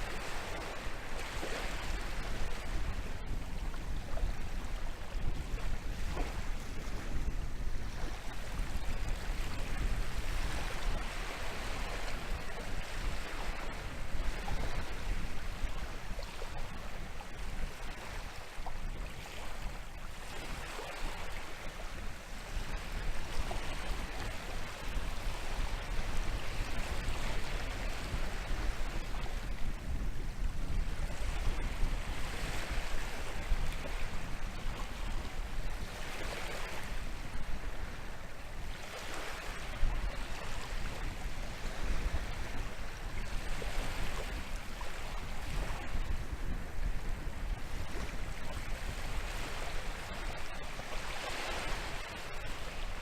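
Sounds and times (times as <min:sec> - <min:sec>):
low wind rumble on microphone: 0:00.0 - 0:53.0
waves breaking on shore: 0:00.0 - 0:53.0.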